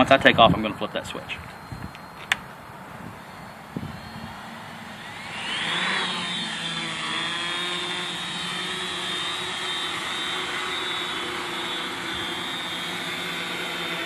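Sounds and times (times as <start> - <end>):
drone motors whining: 1.4 - 14.0.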